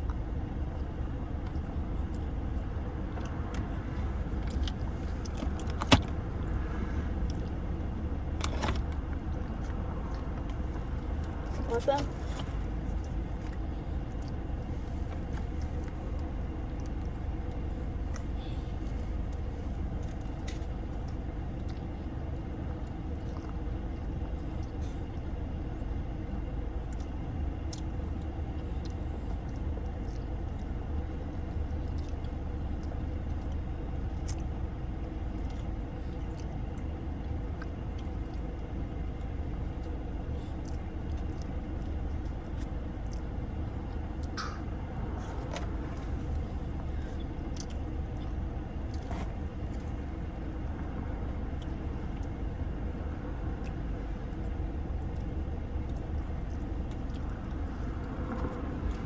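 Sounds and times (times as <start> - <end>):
car engine rumble inside cabin: 0.0 - 59.0.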